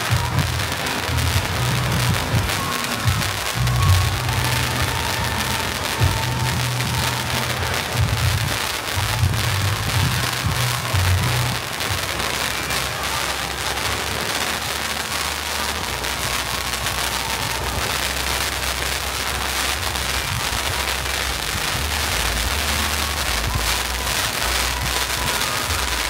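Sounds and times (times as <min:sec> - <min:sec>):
firework crackling hiss: 0:00.0 - 0:26.0.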